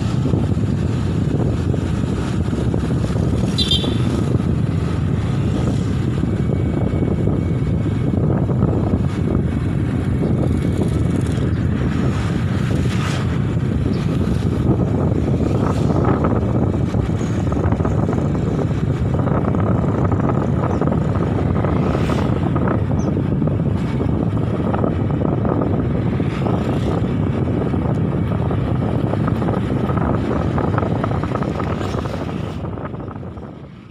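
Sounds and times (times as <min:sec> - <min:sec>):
motorcycle engine: 0:00.0 - 0:33.9
wind buffeting microphone: 0:00.0 - 0:33.9.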